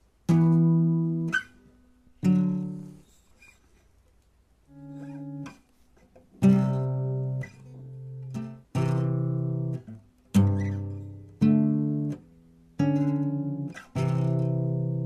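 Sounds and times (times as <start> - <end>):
guitar chords ringing: 0.3 - 3.0, 4.7 - 5.6, 6.4 - 15.0.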